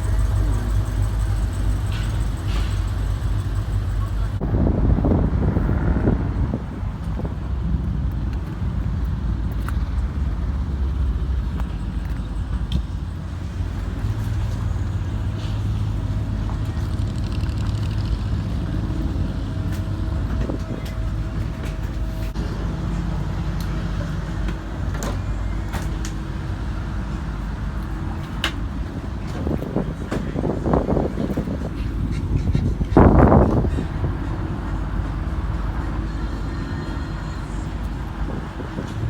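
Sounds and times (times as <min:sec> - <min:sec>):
vehicle engine running at low revs: 0:00.0 - 0:39.0.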